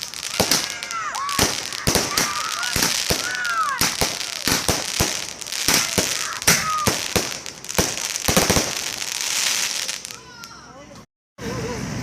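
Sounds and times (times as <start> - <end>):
firework whistle: 0.0 - 10.2
crackling hiss: 0.0 - 10.6
fireworks bangs: 0.0 - 10.6.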